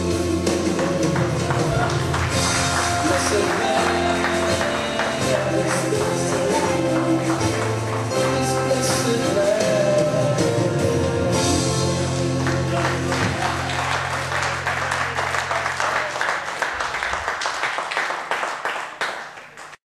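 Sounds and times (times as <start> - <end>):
congregation clapping: 0.4 - 9.9, 12.4 - 19.8.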